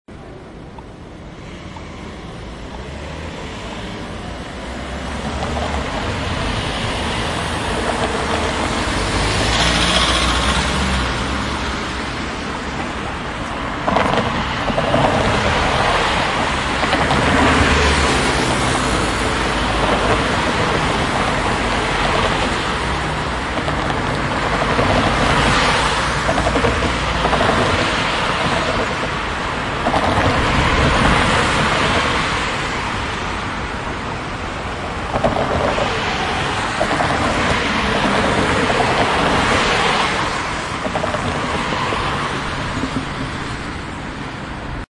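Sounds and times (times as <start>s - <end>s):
cars driving past: 0.1s - 44.8s.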